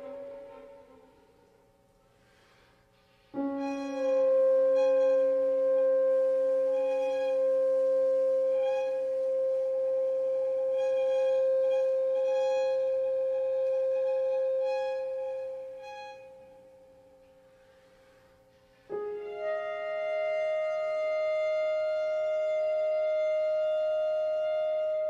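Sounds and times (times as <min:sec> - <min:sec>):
chamber music: 0:00.0 - 0:01.8, 0:03.3 - 0:17.7, 0:18.6 - 0:25.0.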